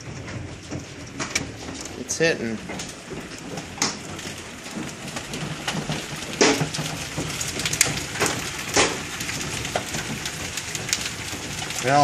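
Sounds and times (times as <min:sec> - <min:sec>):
hailstones striking hard surfaces: 0:00.0 - 0:12.0
heavy rain hissing: 0:01.4 - 0:12.0.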